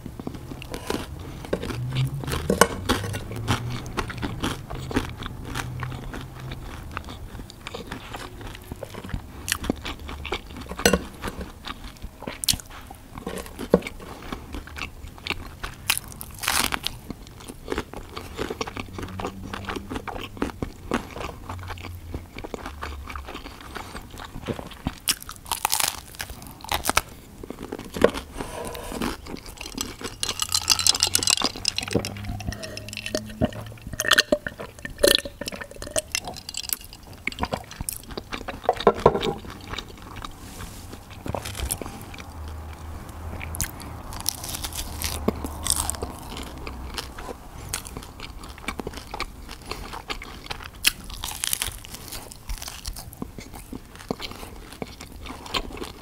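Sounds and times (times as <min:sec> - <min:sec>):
crunching and chewing food: 0:00.0 - 0:56.0.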